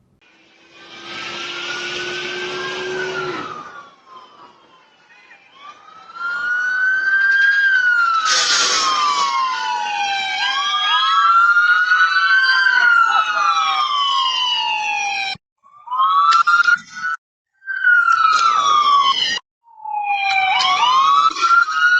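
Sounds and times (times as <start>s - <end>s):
police sirens wailing: 0.3s - 21.9s.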